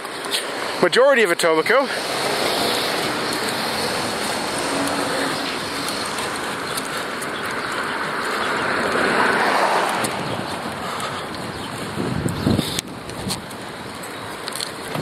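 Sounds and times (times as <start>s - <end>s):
traffic rushing: 0.0s - 15.0s
wind noise: 2.0s - 15.0s.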